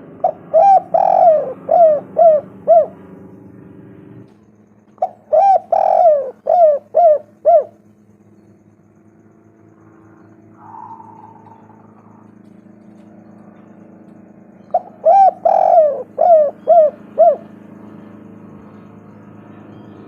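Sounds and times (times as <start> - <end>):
dove cooing: 0.0 - 3.2, 4.9 - 8.0, 9.9 - 20.0.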